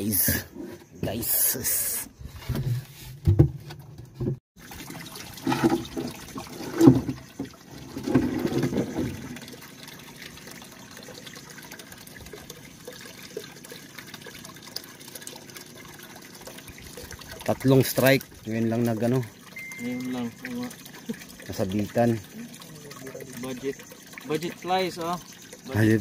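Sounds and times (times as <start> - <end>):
water sloshing and trickling: 0.0 - 26.0.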